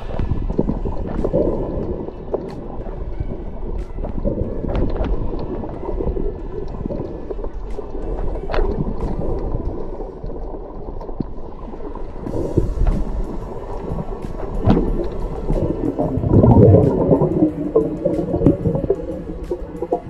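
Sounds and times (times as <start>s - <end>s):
underwater rush of water: 0.0s - 20.0s.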